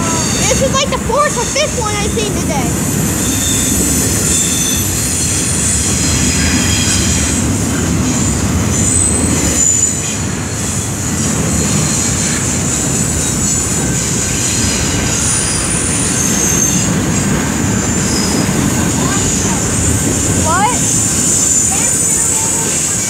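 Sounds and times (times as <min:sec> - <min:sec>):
high wheel squeals: 0:00.0 - 0:23.0
train wheels rumbling on rails: 0:00.0 - 0:23.0.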